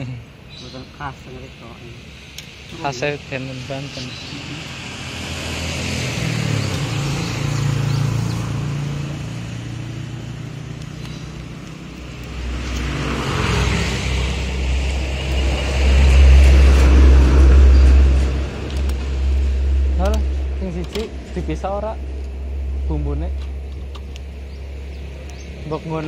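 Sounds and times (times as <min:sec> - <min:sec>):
engine hum: 0:00.0 - 0:26.0
vehicle approaching with low rumble: 0:00.0 - 0:26.0.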